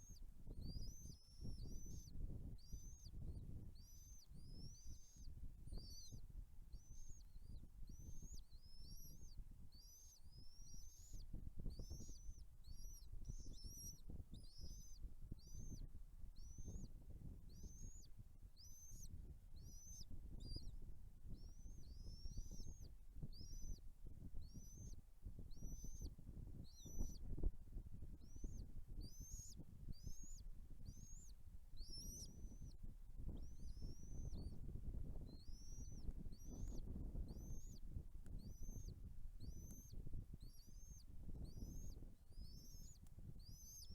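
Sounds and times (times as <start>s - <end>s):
eagle chicks peeping: 0.0s - 43.9s.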